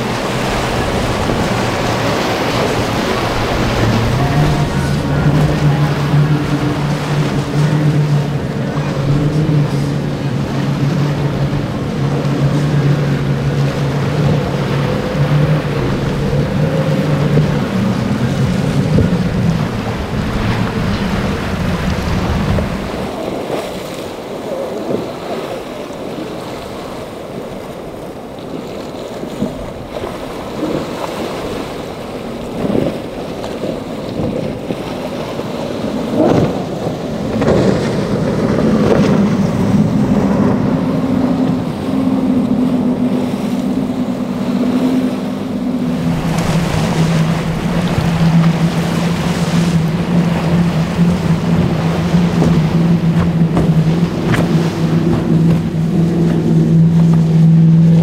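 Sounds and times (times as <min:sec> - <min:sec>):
outboard engines droning: 0:00.0 - 0:58.0
rushing water: 0:00.0 - 0:58.0
wind on microphone: 0:00.0 - 0:58.0.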